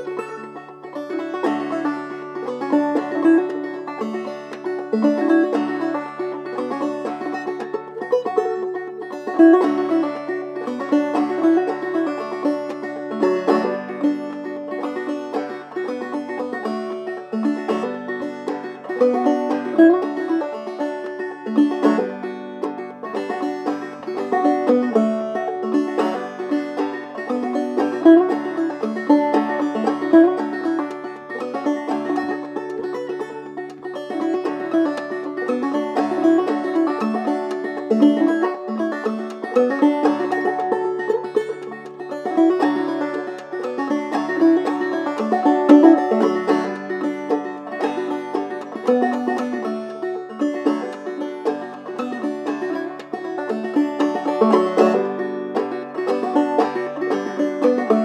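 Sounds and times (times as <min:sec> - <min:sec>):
clawhammer banjo playing: 0:00.0 - 0:58.0.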